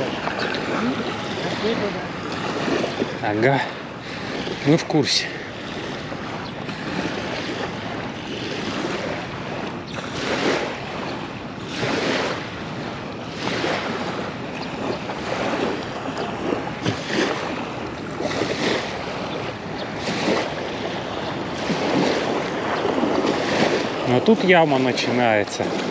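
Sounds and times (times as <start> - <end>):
small waves lapping on shore: 0.0 - 25.9
wind rushing over microphone: 0.0 - 25.9.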